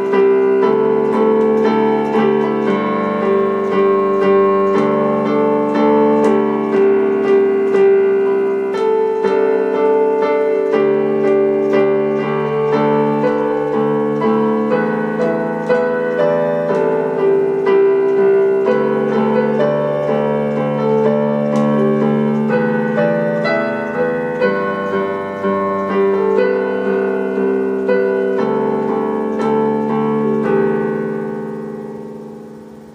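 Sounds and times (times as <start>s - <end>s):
piano music: 0.0s - 32.9s.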